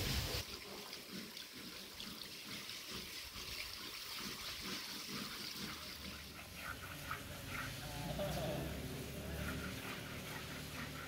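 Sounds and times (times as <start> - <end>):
hose water trickling and splashing: 0.0 - 11.0.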